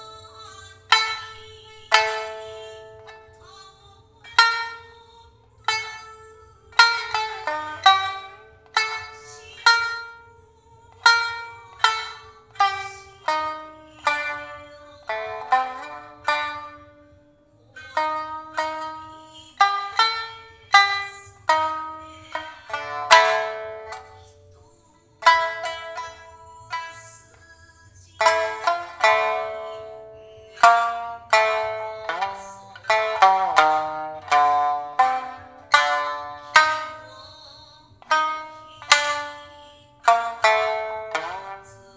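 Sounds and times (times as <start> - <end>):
shamisen plucked notes: 0.0 - 41.9.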